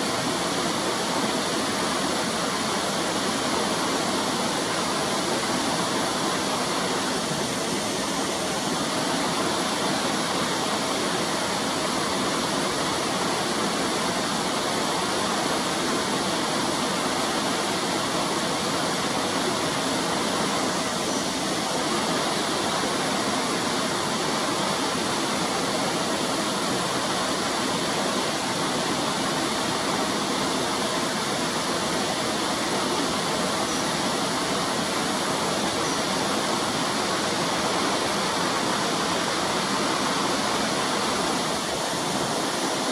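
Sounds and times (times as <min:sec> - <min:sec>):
stream rushing: 0:00.0 - 0:42.9.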